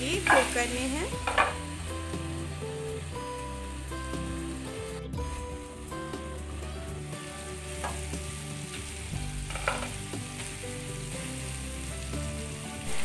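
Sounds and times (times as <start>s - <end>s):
instrumental background music: 0.0s - 13.0s
meat sizzling in a pan: 0.0s - 13.0s.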